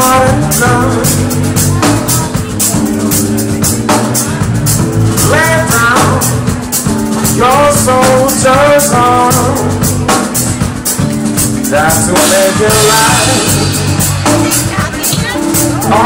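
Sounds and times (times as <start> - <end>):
bass line: 0.0 - 16.0
drum kit with hi-hat: 0.0 - 16.0.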